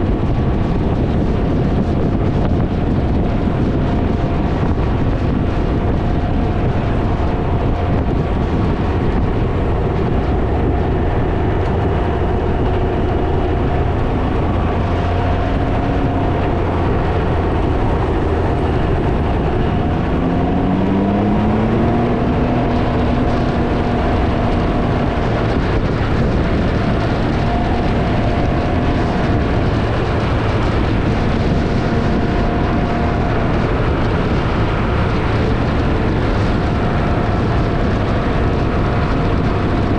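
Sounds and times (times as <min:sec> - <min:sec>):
three-wheeler engine running: 0:00.0 - 0:39.9
wind buffeting on microphone: 0:00.0 - 0:39.9.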